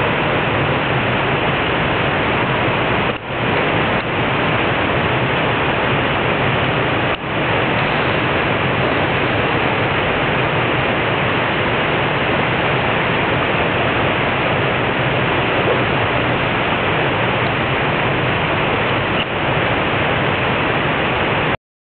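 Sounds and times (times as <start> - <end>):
water rushing over weir: 0.0 - 21.6.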